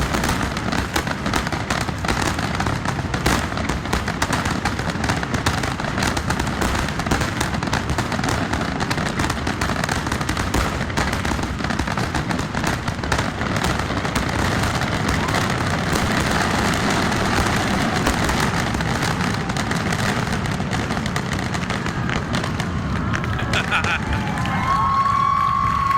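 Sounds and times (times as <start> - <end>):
fireworks bangs and crackling: 0.0 - 25.9.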